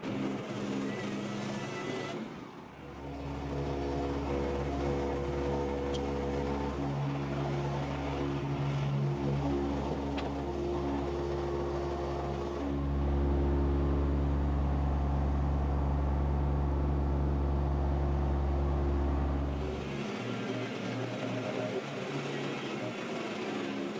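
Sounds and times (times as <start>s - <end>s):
engine running: 0.0s - 23.9s.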